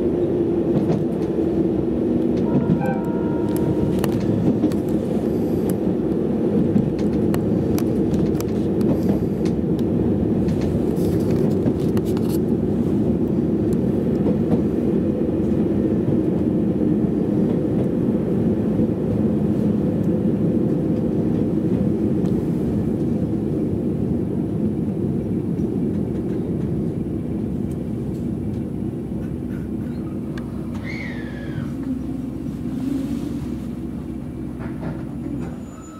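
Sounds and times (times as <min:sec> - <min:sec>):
train cabin rumble: 0:00.0 - 0:35.9.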